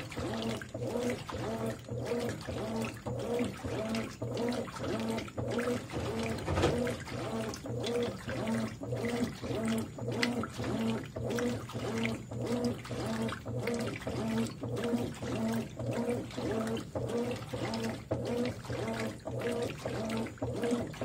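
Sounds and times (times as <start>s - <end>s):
washing machine motor hum: 0.0s - 21.0s
washing machine water sloshing: 0.0s - 21.0s.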